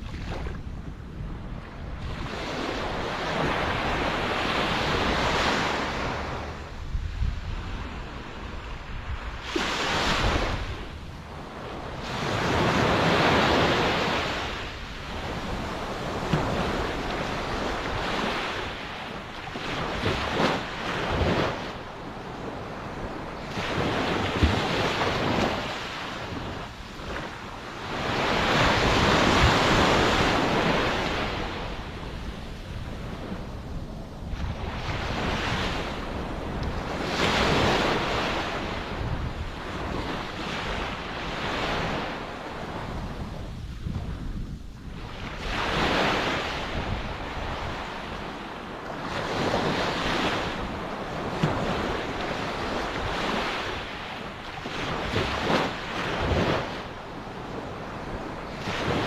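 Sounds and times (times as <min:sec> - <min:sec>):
waves breaking and washing in: 0:00.0 - 0:59.0
wind rumble on microphone: 0:00.0 - 0:59.0.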